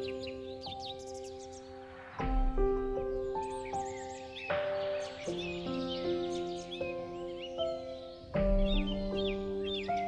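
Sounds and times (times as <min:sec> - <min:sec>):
high bird chirps: 0:00.0 - 0:02.3, 0:03.0 - 0:10.0
calm music of held chords: 0:00.0 - 0:10.0.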